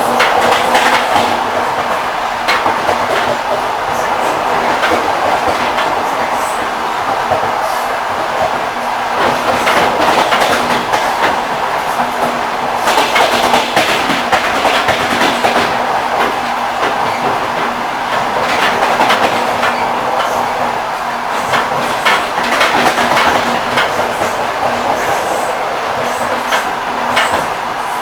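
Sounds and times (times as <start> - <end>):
train rolling rumble: 0.0 - 28.0
train wheels clacking over rail joints: 0.0 - 28.0.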